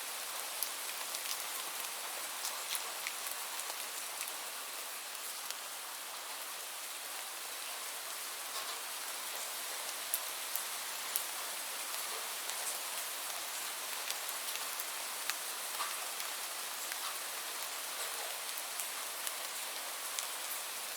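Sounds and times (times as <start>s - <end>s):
raindrops ticking on a surface: 0.1s - 20.9s.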